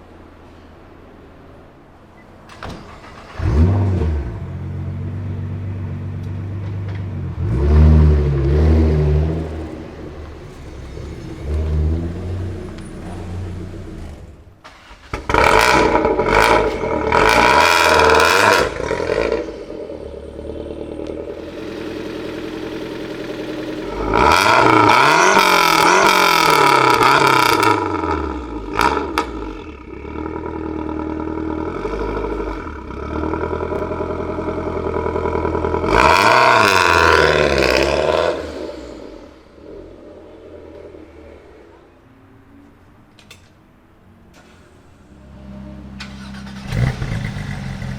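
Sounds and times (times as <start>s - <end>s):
car engine idling and revving: 0.0s - 43.2s, 43.8s - 47.9s.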